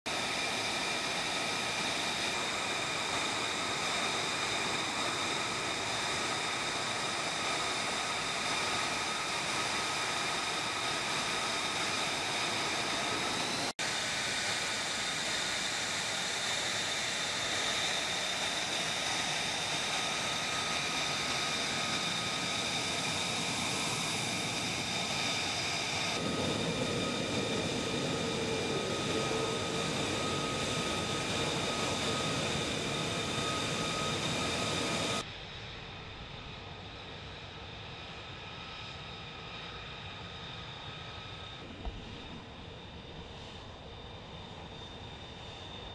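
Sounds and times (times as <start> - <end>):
jet engine whine: 0.1 - 45.9.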